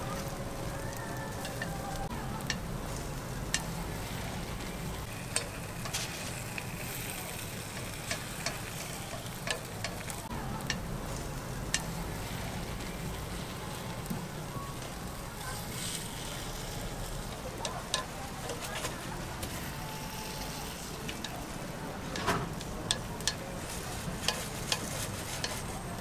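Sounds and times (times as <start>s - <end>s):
batter sizzling on a mold plate: 0.0s - 26.0s.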